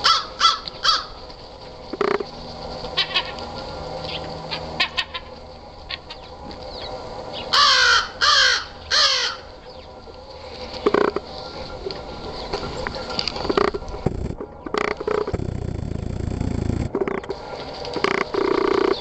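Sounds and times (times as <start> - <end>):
gulls calling: 0.0 - 15.4, 16.0 - 19.0.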